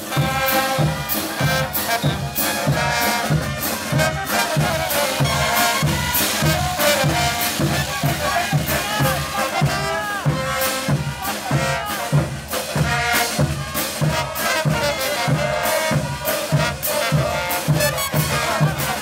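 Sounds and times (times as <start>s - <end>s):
brass band playing folk music: 0.0s - 19.0s
steady drum beat: 0.0s - 19.0s.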